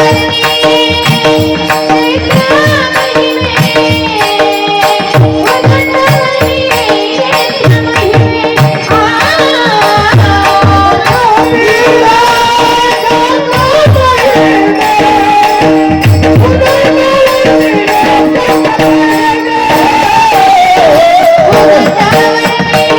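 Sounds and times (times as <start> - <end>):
woman singing: 0.0 - 22.9.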